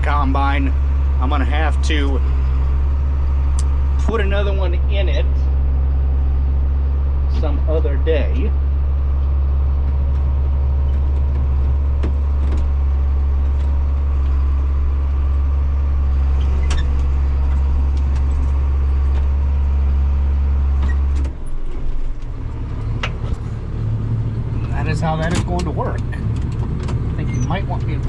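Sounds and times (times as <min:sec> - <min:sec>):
tractor engine droning: 0:00.0 - 0:28.0.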